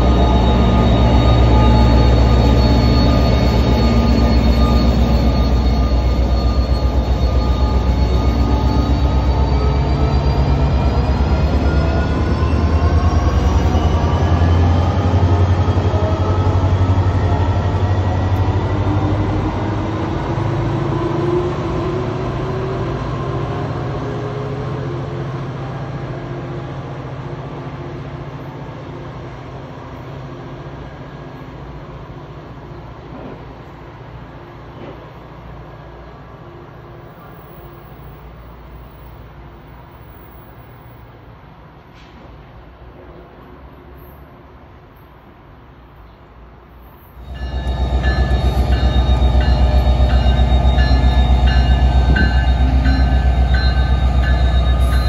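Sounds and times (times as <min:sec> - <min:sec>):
locomotive engine drone: 0:00.0 - 0:42.1, 0:46.9 - 0:55.0.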